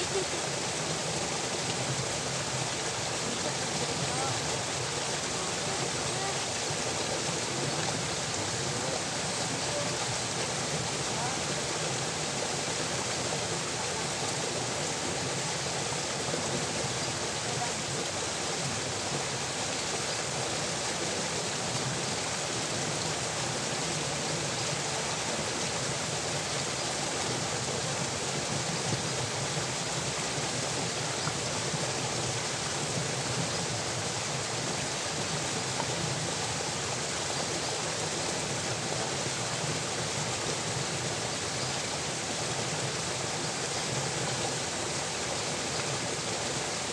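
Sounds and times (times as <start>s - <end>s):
water rushing from a culvert: 0.0s - 46.9s.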